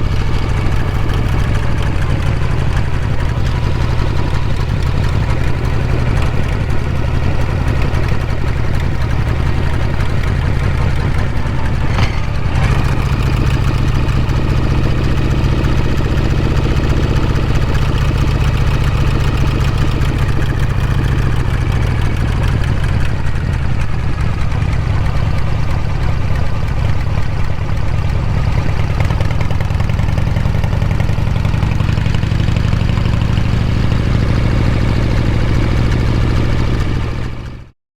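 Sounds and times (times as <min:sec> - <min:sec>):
motorcycle engine running loud: 0:00.0 - 0:37.7.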